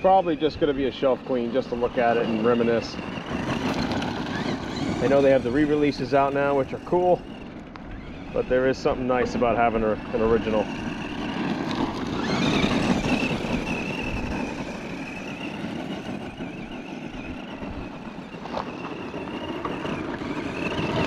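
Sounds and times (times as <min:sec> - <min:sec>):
electric motor and gears whining: 0:00.0 - 0:21.0
tyres rushing on gravel: 0:00.0 - 0:21.0.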